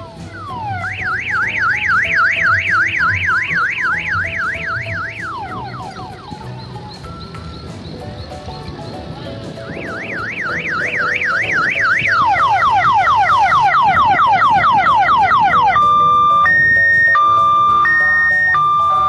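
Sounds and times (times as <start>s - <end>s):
quiet electronic melody: 0.0s - 19.0s
electronic siren: 0.4s - 6.5s, 9.7s - 19.0s.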